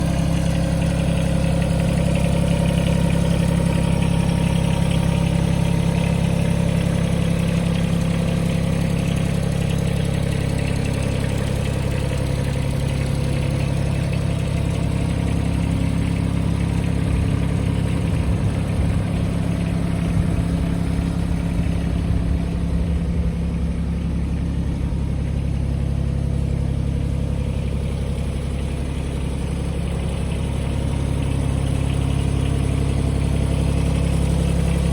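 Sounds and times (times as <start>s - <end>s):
lawnmower engine idling: 0.0s - 34.9s.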